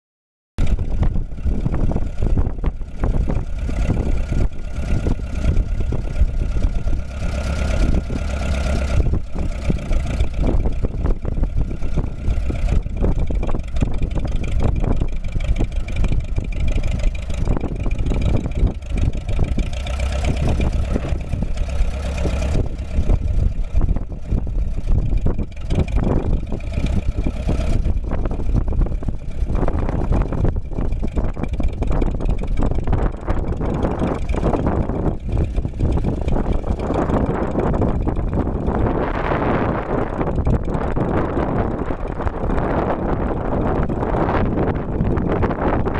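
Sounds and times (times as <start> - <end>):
tractor engine running: 0.6 - 45.9.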